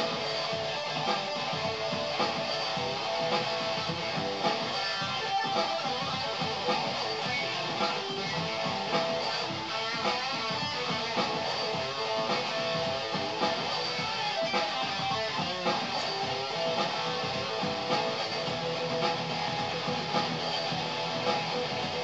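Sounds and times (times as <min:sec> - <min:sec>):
electric guitar strummed: 0:00.0 - 0:22.0.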